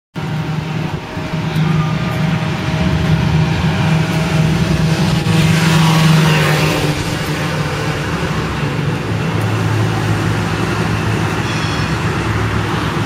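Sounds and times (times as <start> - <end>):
road traffic drone: 0.1 - 13.0.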